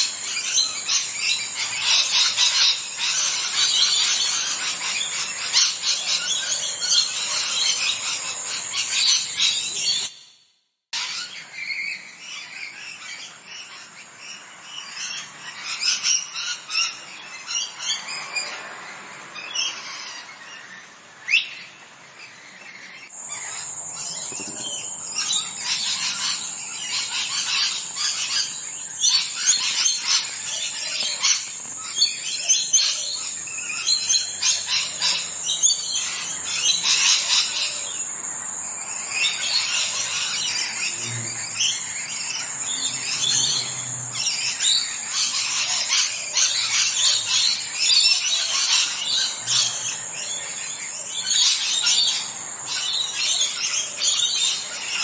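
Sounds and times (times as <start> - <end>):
parrots chirping and calling: 0.0 - 10.3, 11.0 - 55.0.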